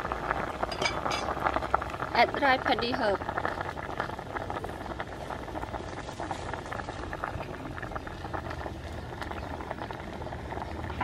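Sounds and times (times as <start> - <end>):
soup boiling and bubbling: 0.0 - 11.0.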